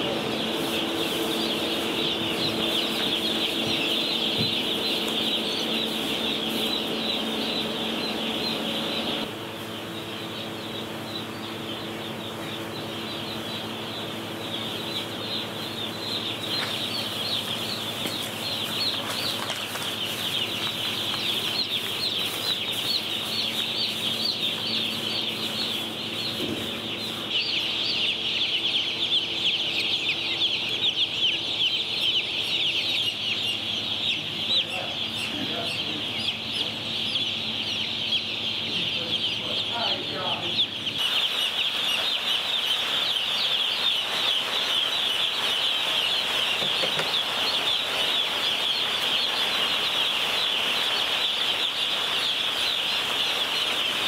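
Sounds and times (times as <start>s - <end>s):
chicks peeping: 0.0s - 54.0s
steady low hum: 0.0s - 54.0s.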